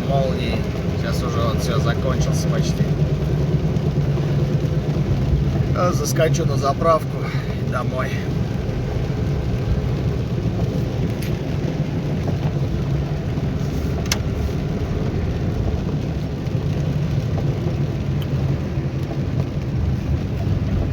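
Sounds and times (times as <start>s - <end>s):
car engine rumble: 0.0s - 20.9s
road noise: 0.0s - 20.9s.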